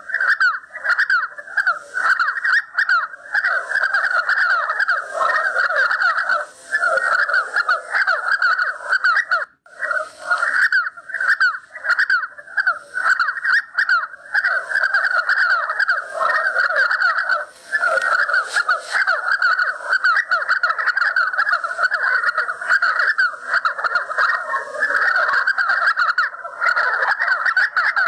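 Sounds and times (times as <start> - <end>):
partridges calling: 0.0 - 28.0.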